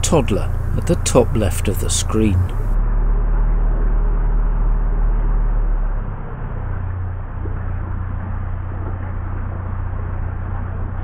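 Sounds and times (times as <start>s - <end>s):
diesel engine ticking over: 0.0s - 11.0s.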